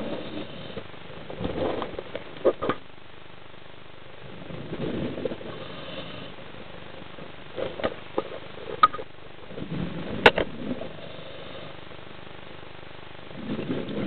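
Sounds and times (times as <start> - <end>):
steady underwater hiss: 0.0 - 14.0.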